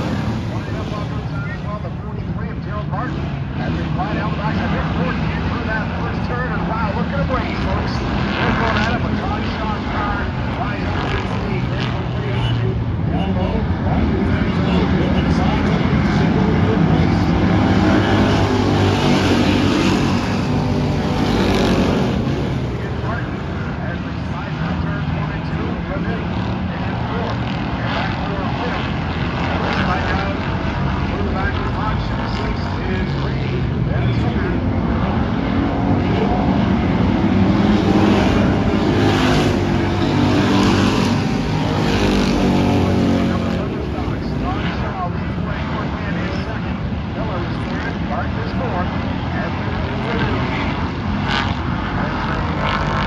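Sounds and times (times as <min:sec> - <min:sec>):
race car engines: 0:00.0 - 0:53.0.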